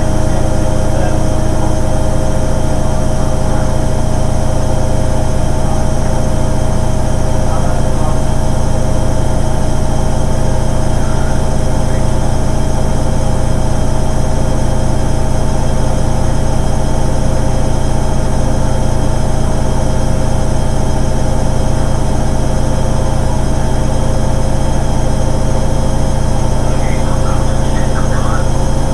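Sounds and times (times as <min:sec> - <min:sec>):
washing machine motor hum: 0:00.0 - 0:28.9.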